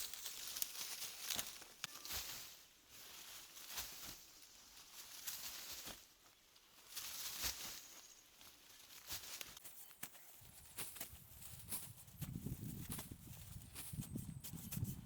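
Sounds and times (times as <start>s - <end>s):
rustling in leaf litter: 0.0s - 13.7s.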